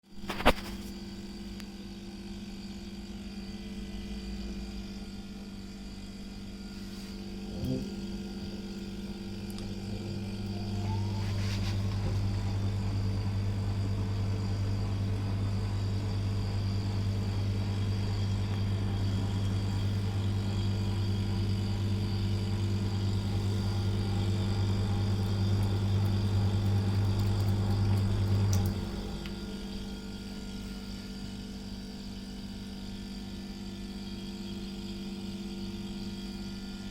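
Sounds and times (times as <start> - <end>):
deep refrigerator drone: 0.0 - 36.9
refrigerator humming: 0.1 - 36.9.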